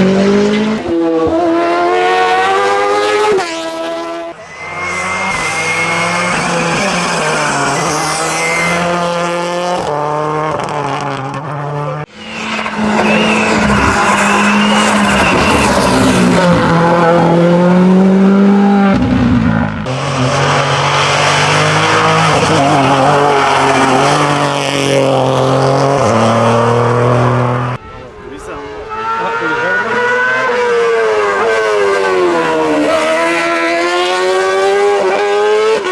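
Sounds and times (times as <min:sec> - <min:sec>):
race car engines accelerating: 0:00.0 - 0:35.9.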